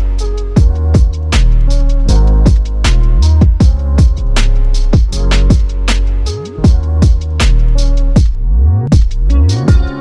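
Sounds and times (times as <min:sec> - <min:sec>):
electronic music with drum beat: 0:00.0 - 0:10.0
heavy sliding bass: 0:00.0 - 0:10.0.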